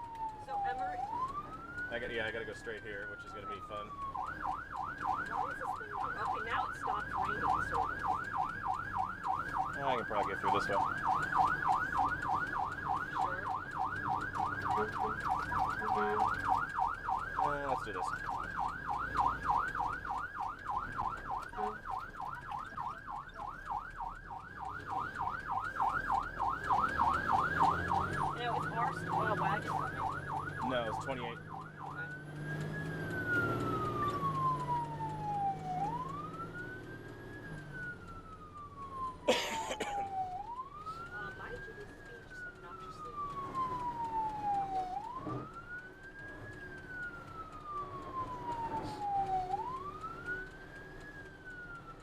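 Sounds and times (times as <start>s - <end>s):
ambulance siren yelping: 0.0s - 52.0s.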